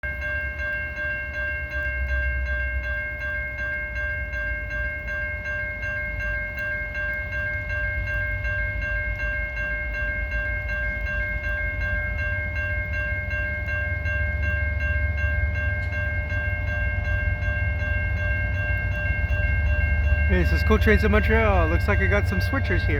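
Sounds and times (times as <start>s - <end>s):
level crossing bell ringing: 0.0s - 22.9s
low rumble of train: 0.0s - 22.9s.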